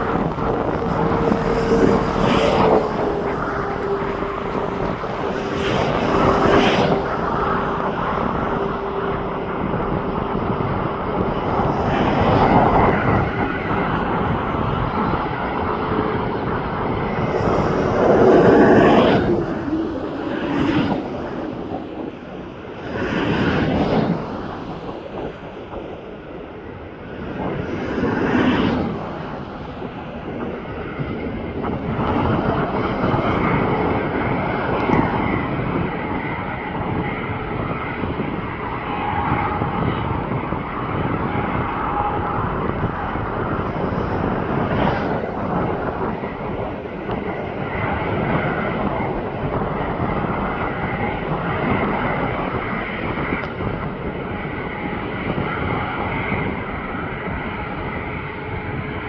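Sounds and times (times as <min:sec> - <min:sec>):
airplane engines rushing: 0:00.0 - 0:59.0.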